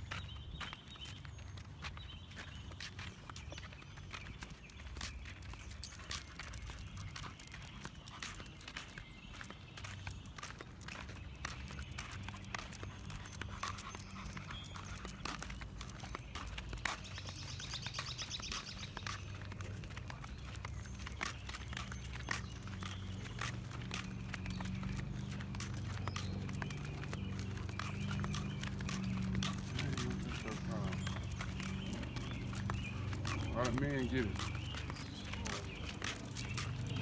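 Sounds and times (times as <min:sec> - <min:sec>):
footsteps on concrete: 0:00.0 - 0:37.0.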